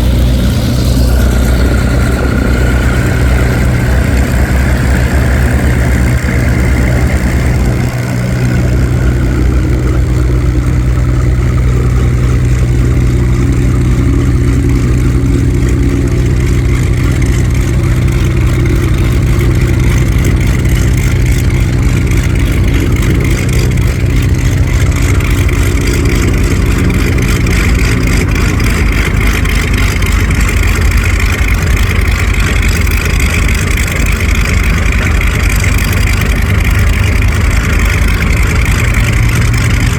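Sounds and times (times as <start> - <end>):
radial engine idling: 0.0 - 39.9.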